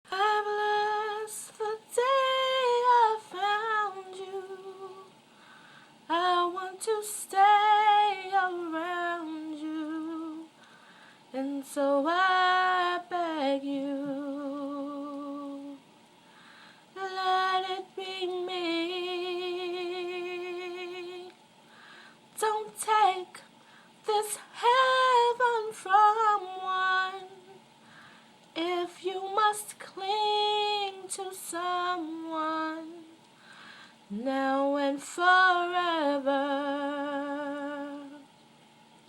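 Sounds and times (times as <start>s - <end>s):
woman singing unaccompanied: 0.1s - 5.2s, 6.0s - 10.6s, 11.3s - 15.9s, 16.9s - 21.5s, 22.4s - 27.8s, 28.5s - 33.3s, 34.1s - 38.4s.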